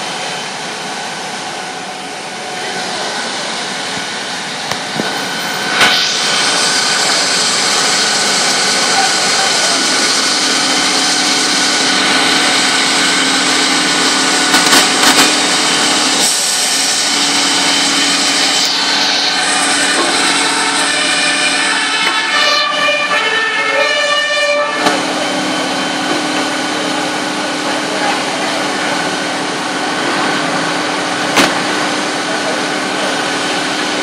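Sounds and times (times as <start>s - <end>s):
loud machine noise: 0.0s - 34.0s.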